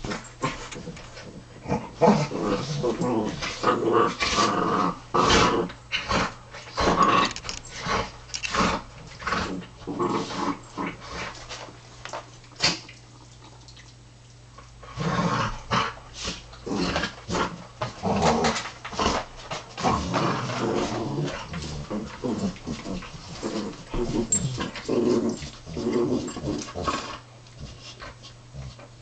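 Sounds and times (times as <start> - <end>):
dogs growling: 0.0 - 11.4, 14.8 - 28.9.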